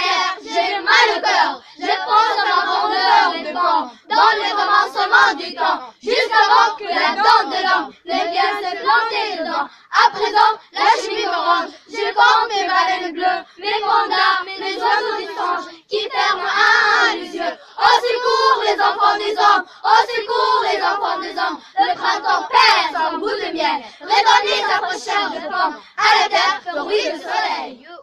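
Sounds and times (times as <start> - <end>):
girls singing together: 0.0 - 28.0.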